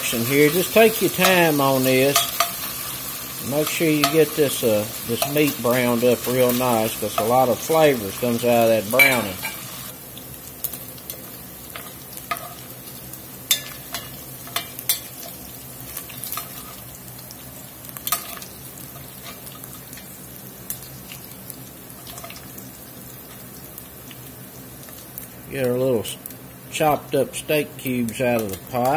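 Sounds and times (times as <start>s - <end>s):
meat sizzling in hot oil: 0.0s - 28.9s.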